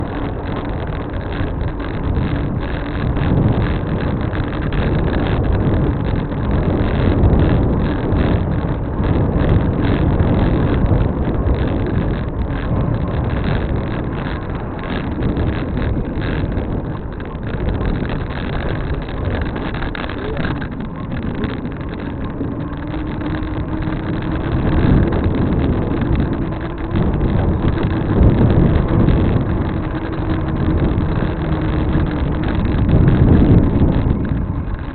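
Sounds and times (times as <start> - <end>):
vehicle engine hum: 0.0 - 34.9
wind and road noise: 0.0 - 34.9.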